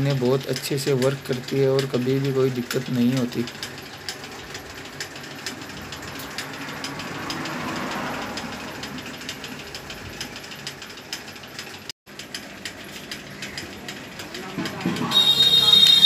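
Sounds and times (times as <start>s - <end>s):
vulcanizing machine ticking: 0.0s - 16.0s.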